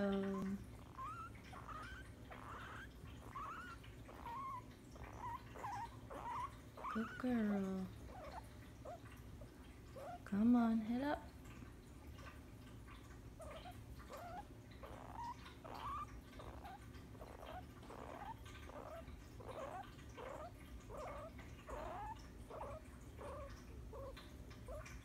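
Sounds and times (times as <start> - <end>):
guinea pig squeaking: 0.0 - 10.4, 12.9 - 25.0
faint low hum: 0.0 - 25.0.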